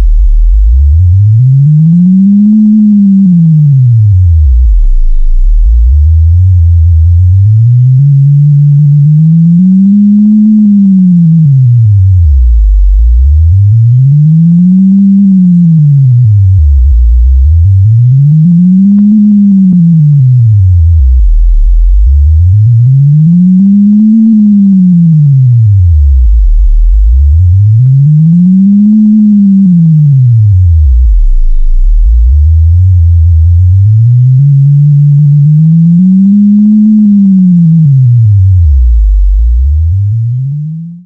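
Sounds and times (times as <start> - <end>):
low sine tone gliding: 0.0 - 41.0
second steady tone: 0.0 - 41.0.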